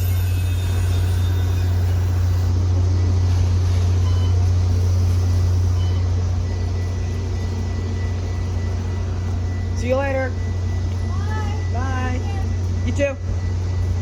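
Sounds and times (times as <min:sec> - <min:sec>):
constant hum: 0:00.0 - 0:14.0
train idling: 0:00.0 - 0:14.0.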